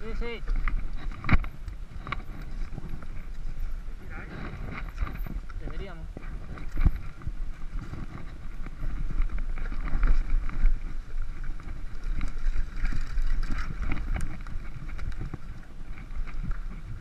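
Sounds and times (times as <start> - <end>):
bike rattling and knocking: 0.0 - 17.0
bike tyres rumbling over dirt: 0.0 - 17.0
wind buffeting microphone: 0.0 - 17.0.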